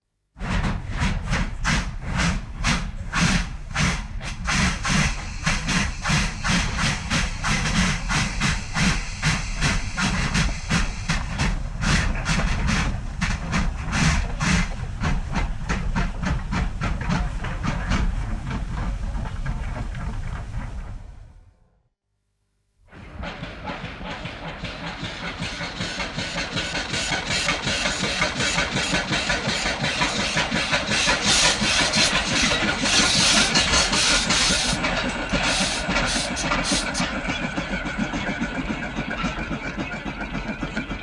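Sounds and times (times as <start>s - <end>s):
steam locomotive chuffing: 0.4s - 21.4s, 22.9s - 41.0s.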